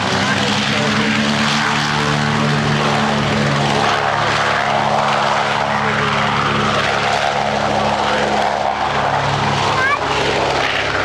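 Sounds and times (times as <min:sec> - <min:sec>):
propeller rush: 0:00.0 - 0:11.0
twin radial engines droning: 0:00.0 - 0:11.0.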